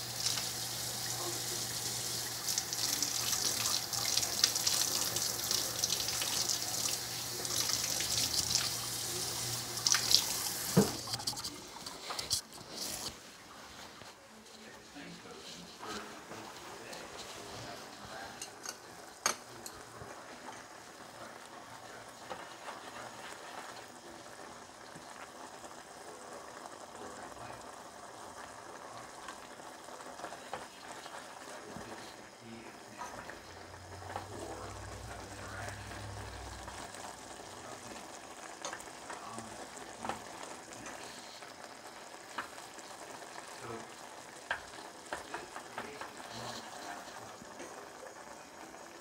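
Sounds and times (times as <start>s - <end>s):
soup bubbling in a pot: 0.0s - 13.1s, 18.8s - 49.0s.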